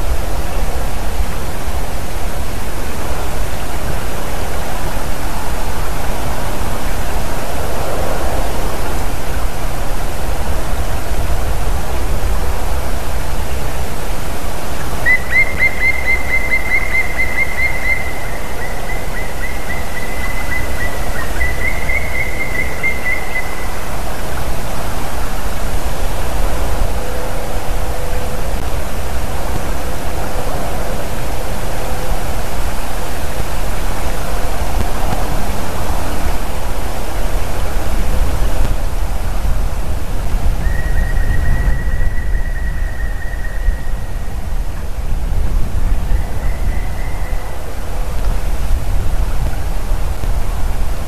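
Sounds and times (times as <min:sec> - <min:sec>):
wind on microphone: 0:00.0 - 0:51.0.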